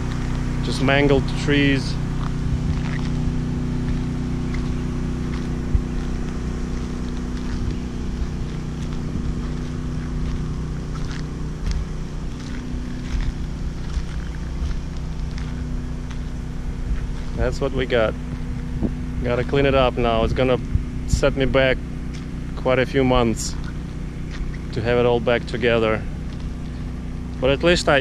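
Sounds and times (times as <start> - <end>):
generator engine humming: 0.0 - 28.0.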